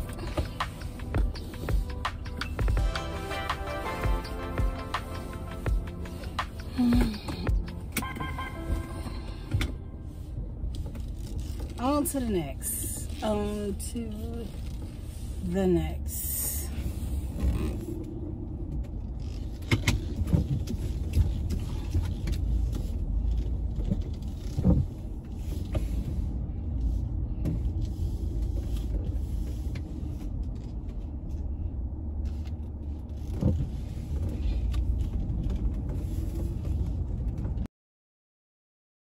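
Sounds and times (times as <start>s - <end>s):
engine and road rumble: 0.0s - 37.7s.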